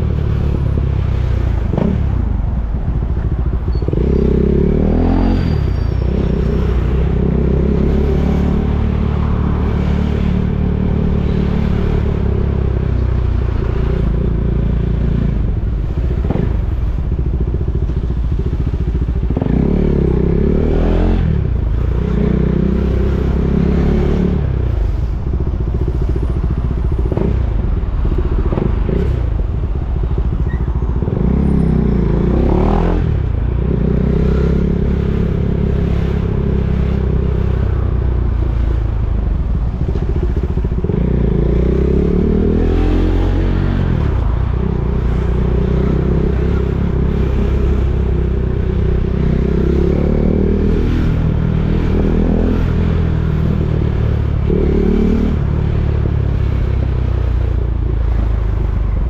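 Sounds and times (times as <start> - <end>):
motorcycle engine running: 6.3 - 20.6, 21.2 - 59.0.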